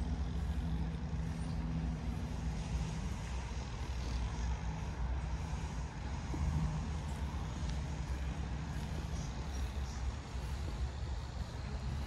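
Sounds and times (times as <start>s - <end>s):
heavy vehicle engine hum: 0.0s - 12.0s
traffic noise: 0.0s - 12.0s.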